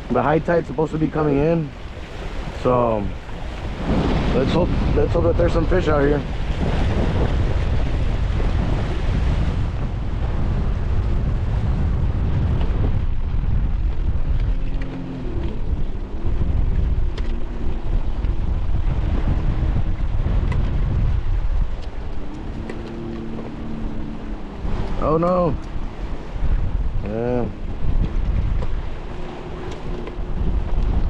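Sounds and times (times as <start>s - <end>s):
water: 0.0s - 31.0s
wind buffeting microphone: 0.0s - 31.0s.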